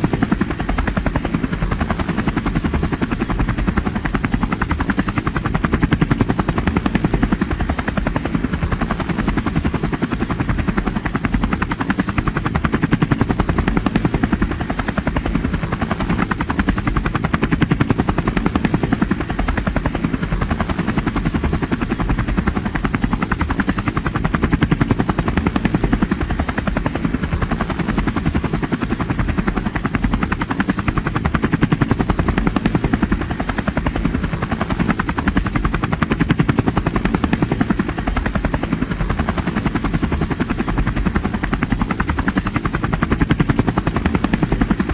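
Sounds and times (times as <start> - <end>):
helicopter rotor chopping: 0.0 - 44.9
helicopter turbine noise: 0.0 - 44.9.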